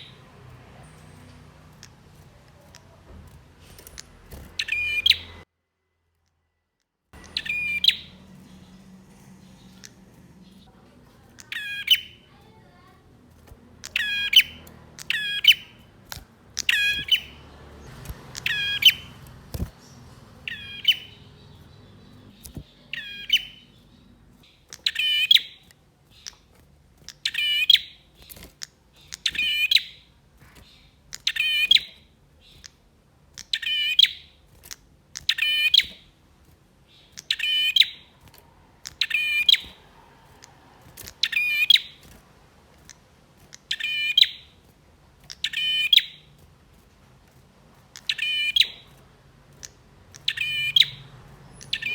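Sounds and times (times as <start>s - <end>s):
bird singing trilled phrases: 0.0s - 3.0s, 3.6s - 5.4s, 7.2s - 36.2s, 36.8s - 42.2s, 42.8s - 46.4s, 47.9s - 51.9s.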